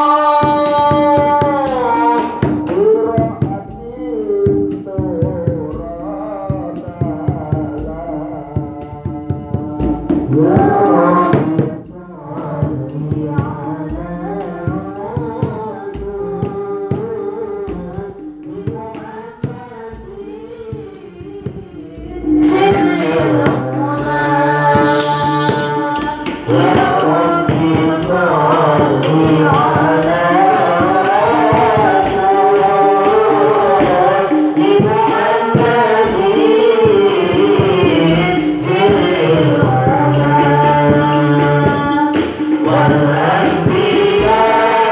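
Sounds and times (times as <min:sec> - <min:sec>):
hand drums: 0:00.0 - 0:44.9
jingling tambourine: 0:00.0 - 0:44.9
woman singing into a microphone: 0:00.0 - 0:44.9.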